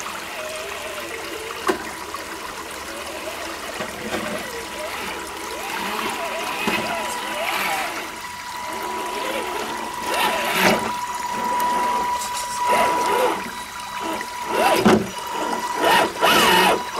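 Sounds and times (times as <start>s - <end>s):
electric motor whining: 0.0s - 16.9s
water trickling and splashing: 0.0s - 16.9s.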